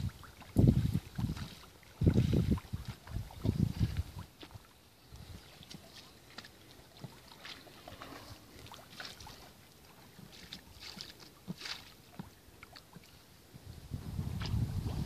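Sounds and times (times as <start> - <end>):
paddle splashing water: 0.0 - 13.7.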